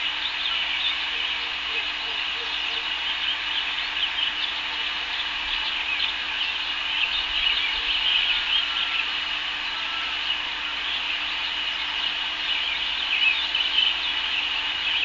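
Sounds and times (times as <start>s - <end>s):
low even hum: 0.0s - 15.0s
small birds chirping: 0.0s - 15.0s
steady hiss: 0.0s - 15.0s.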